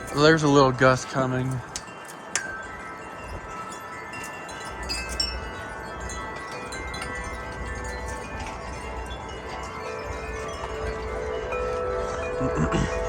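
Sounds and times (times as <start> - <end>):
wind chimes ringing: 0.0 - 13.0
wind rumble on microphone: 0.0 - 13.0.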